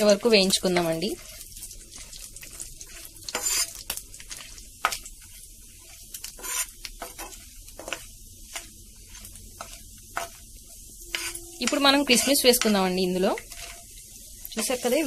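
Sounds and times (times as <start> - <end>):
nuts sizzling in hot ghee: 0.0 - 15.0
steel spoon scraping a pan: 0.0 - 15.0.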